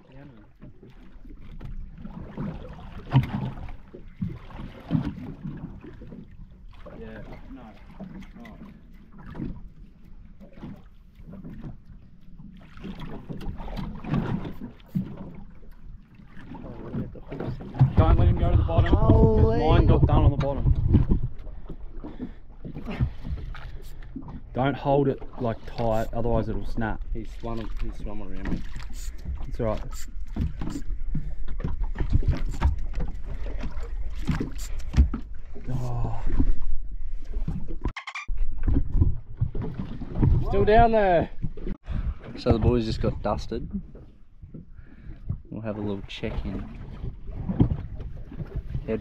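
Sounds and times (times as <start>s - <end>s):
water against boat: 0.0s - 49.0s
wind: 0.0s - 49.0s.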